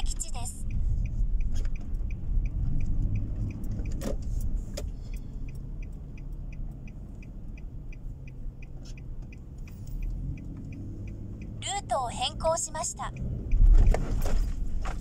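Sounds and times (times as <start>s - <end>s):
engine and tyre rumble: 0.0s - 15.0s
turn signal ticking: 0.0s - 15.0s.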